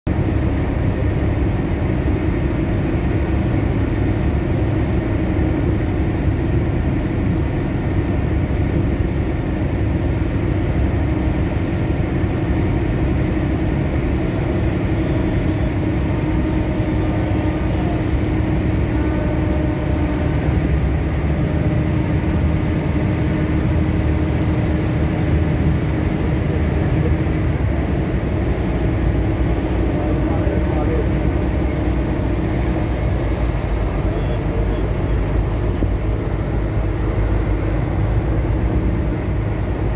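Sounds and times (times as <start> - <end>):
boat engine droning: 0.1 - 39.9
water rushing along hull: 0.1 - 39.9.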